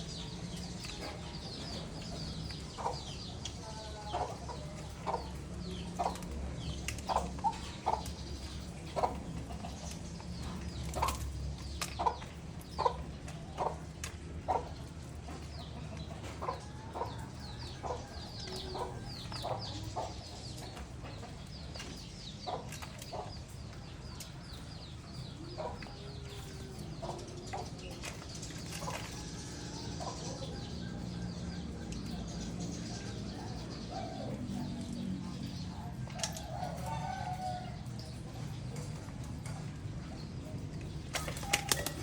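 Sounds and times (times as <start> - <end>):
birds clucking: 0.0 - 42.0.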